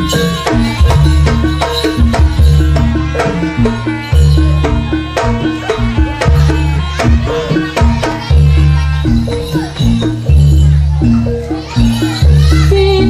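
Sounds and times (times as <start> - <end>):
hand drums beating: 0.0 - 13.0
ringing struck metal notes: 0.0 - 13.0.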